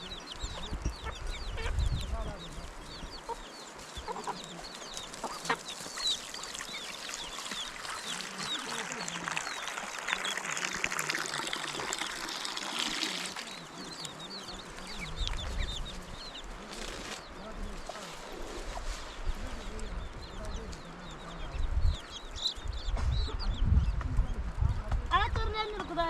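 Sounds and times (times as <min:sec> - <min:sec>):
chicks cheeping: 0:00.0 - 0:11.3, 0:13.4 - 0:26.0
chickens clucking: 0:00.0 - 0:26.0.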